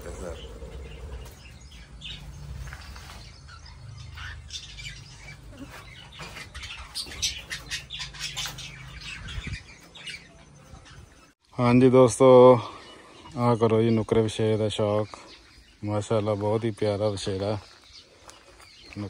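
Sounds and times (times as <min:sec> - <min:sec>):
birds chirping and squawking: 0:00.0 - 0:19.0.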